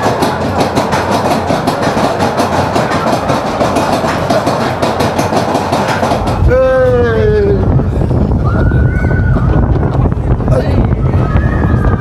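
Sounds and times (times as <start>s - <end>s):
roller coaster clattering on track: 0.0s - 12.0s.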